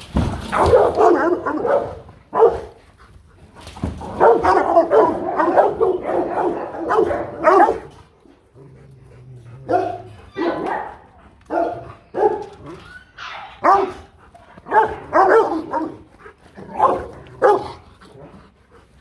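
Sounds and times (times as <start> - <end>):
dogs barking fiercely: 0.3 - 3.2, 3.8 - 18.6.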